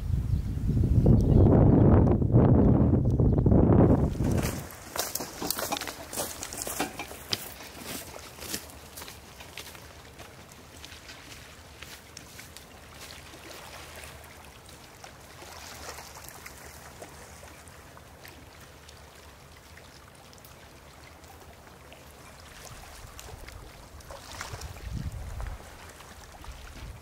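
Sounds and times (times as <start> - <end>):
small splashes: 4.0 - 27.0
small waves lapping on rocks: 4.0 - 27.0.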